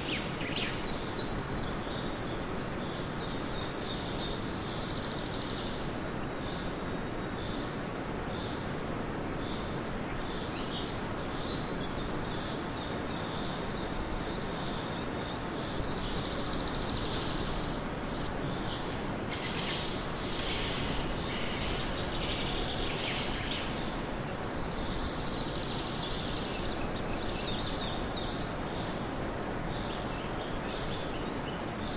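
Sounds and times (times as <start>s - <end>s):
small birds chirping: 0.0s - 31.9s
steady background hiss: 0.0s - 31.9s.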